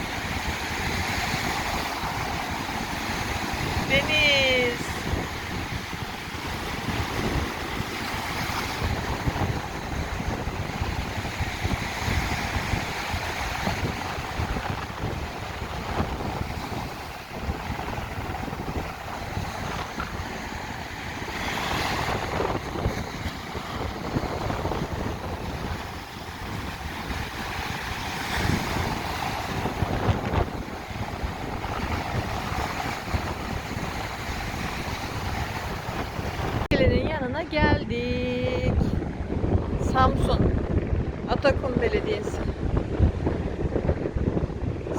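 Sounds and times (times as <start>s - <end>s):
waves washing onto sand: 0.0s - 44.9s
wind buffeting microphone: 0.0s - 44.9s.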